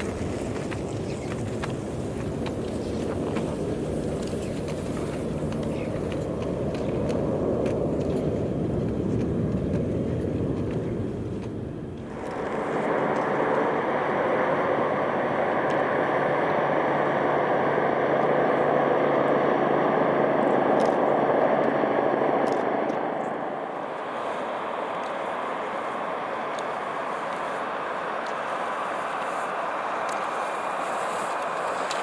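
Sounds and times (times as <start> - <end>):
aircraft engine rumble and hum: 0.0 - 32.0.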